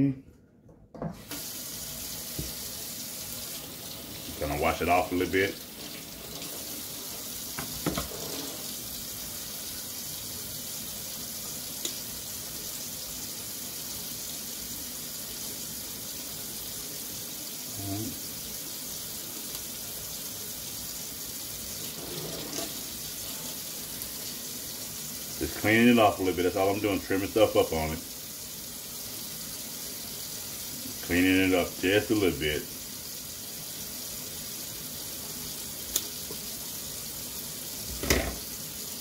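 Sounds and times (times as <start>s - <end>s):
faucet running into metal sink: 1.2s - 39.0s.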